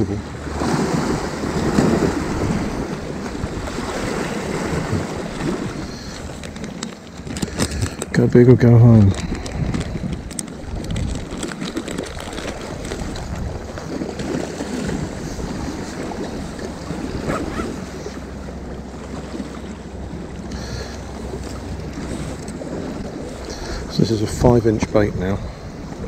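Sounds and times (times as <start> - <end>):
waves lapping against rocks: 0.0 - 26.0
wind buffeting microphone: 0.0 - 26.0.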